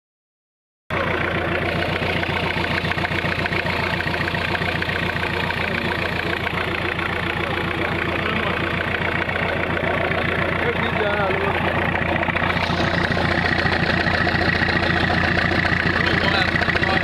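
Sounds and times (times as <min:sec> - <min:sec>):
diesel engine idling: 0:00.9 - 0:17.0.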